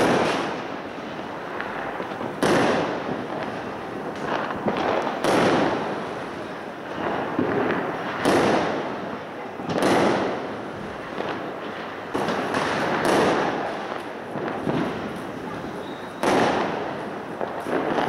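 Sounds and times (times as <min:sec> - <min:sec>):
din of fireworks: 0:00.0 - 0:18.0
firework bangs: 0:00.0 - 0:18.0.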